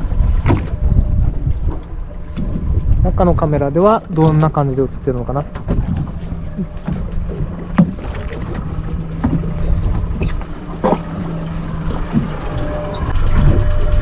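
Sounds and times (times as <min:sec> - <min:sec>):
boat engine hum: 0:00.0 - 0:14.0
water noise: 0:00.0 - 0:14.0
wind: 0:00.0 - 0:14.0.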